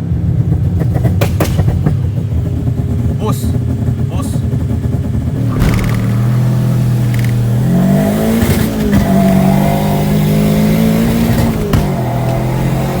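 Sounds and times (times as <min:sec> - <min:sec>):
car engine accelerating hard: 0:00.2 - 0:13.0.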